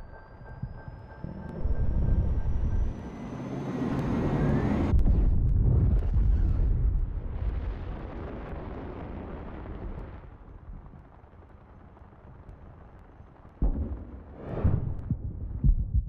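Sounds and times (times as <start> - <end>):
low rumble: 0.0 - 11.2, 13.6 - 16.0.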